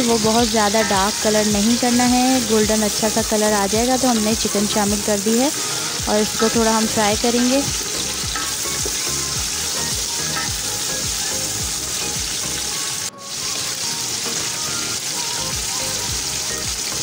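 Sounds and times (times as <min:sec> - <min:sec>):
faint background music: 0:00.0 - 0:17.0
food sizzling in hot oil: 0:00.0 - 0:17.0.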